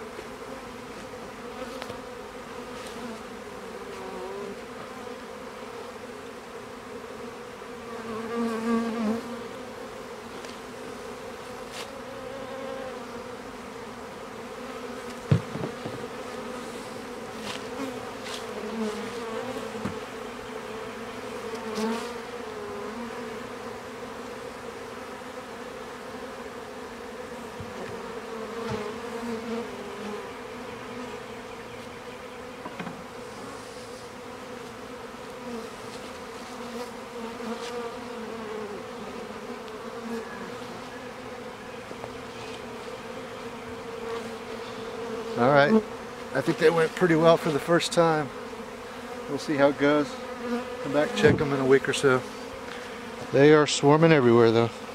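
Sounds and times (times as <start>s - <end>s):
bees buzzing: 0.0s - 54.9s.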